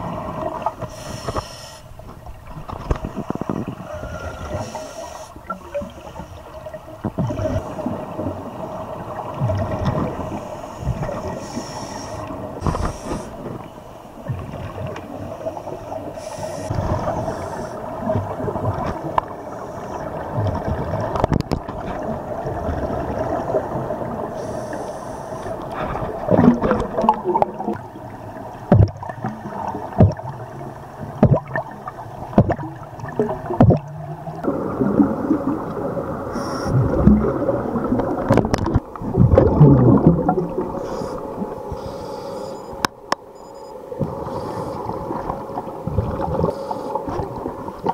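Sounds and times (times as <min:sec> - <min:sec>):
underwater bubbles gurgling: 0:00.0 - 0:47.9.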